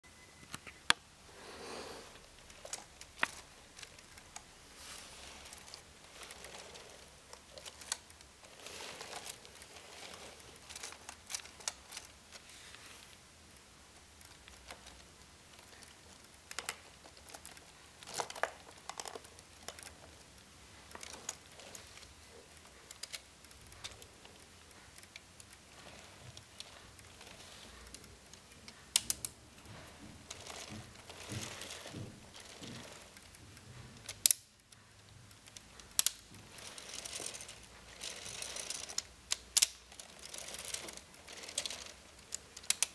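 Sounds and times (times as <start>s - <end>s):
rustling: 0.6s - 42.9s
plastic parts clicking: 2.2s - 4.5s, 5.4s - 12.5s, 13.1s - 42.9s.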